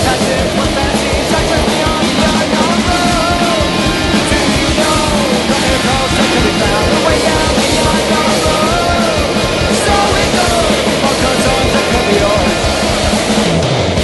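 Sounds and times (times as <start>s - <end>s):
loud rock music with singing: 0.0s - 14.0s.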